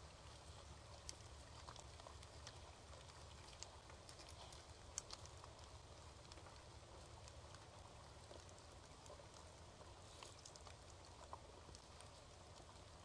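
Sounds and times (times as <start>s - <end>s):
faint ticks: 0.0s - 13.0s
low hum: 0.0s - 13.0s
outdoor background hiss: 0.0s - 13.0s.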